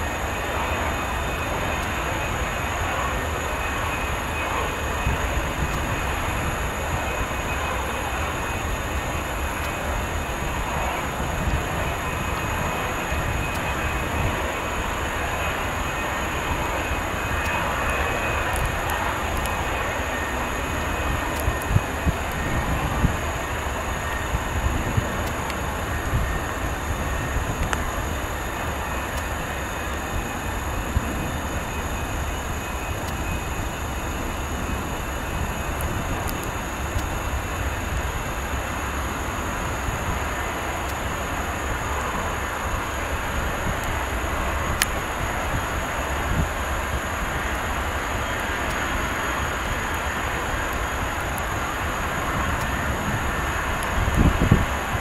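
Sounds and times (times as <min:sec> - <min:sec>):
jet engines running: 0:00.0 - 0:55.0
wind buffeting microphone: 0:00.0 - 0:55.0.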